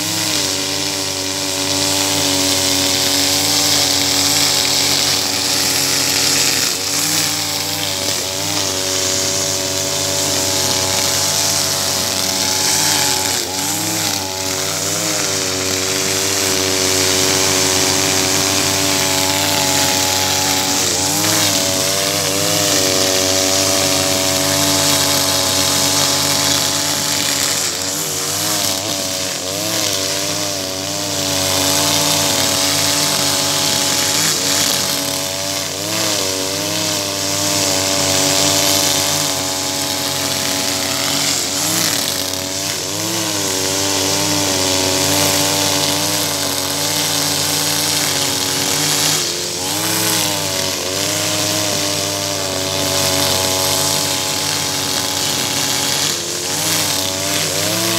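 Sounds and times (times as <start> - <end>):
brush cutter engine at high revs: 0.0 - 57.9.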